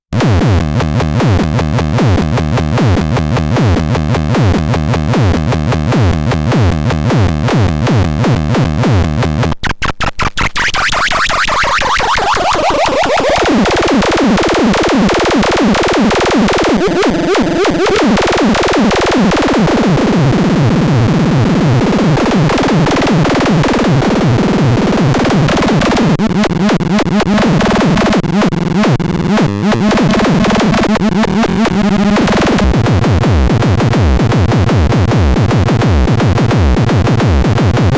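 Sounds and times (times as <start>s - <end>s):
synthesized electronic pattern: 0.1s - 9.5s, 10.6s - 37.9s.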